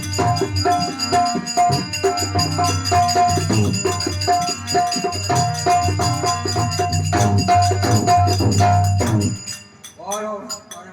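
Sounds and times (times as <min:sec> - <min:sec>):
jingling percussion: 0:00.0 - 0:10.9.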